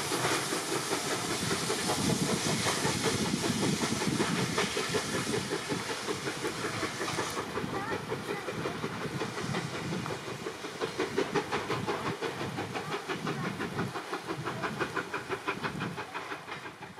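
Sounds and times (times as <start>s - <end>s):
steam hiss: 0.0s - 16.9s
steam locomotive chuffing: 0.0s - 16.9s.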